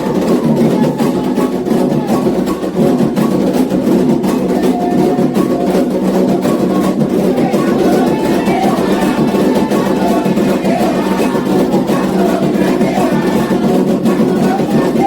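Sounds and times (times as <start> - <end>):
hand drums beaten fast: 0.0 - 15.0
other percussion: 0.0 - 15.0.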